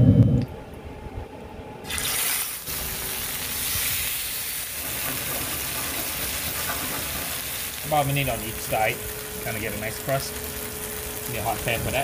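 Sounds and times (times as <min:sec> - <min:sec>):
meat sizzling in a skillet: 0:01.9 - 0:12.0.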